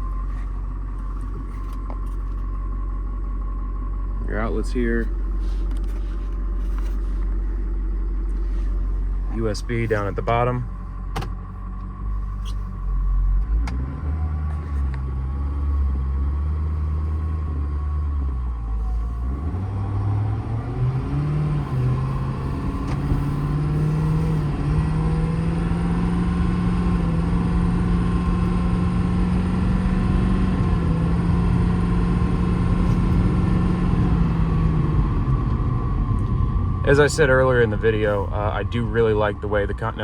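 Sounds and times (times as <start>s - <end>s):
diesel truck engine running: 0.0s - 40.0s
gear shifts: 4.5s - 15.7s, 16.8s - 40.0s.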